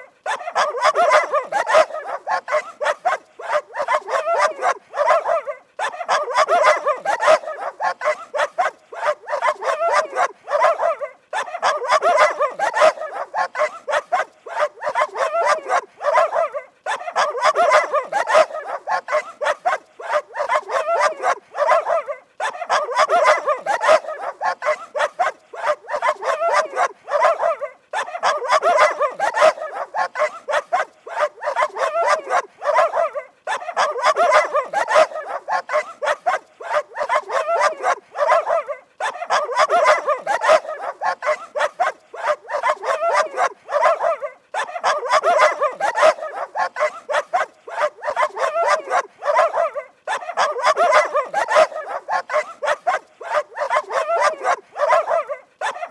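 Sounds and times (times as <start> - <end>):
dog barking rapidly: 0.0 - 55.9.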